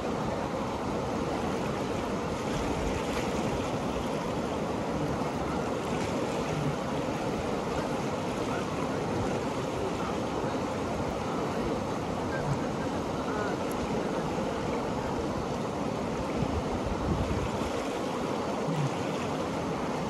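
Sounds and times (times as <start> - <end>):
fast flowing river water: 0.0 - 20.0.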